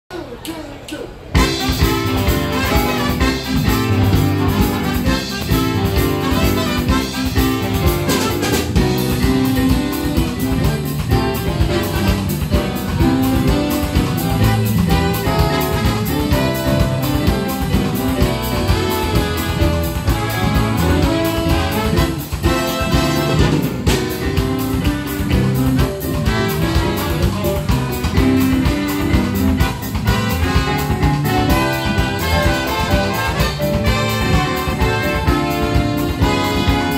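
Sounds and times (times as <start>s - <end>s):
jazz big band playing swing: 1.3s - 36.9s
trumpet leading: 1.4s - 36.9s.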